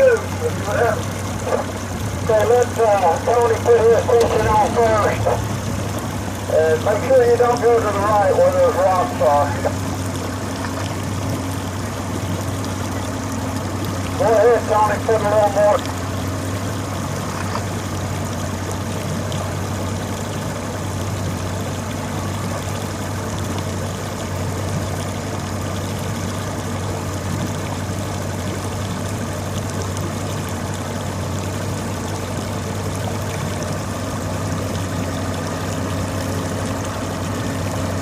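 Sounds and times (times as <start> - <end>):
boat engine humming: 0.0 - 38.0
churned water splashing: 0.0 - 38.0.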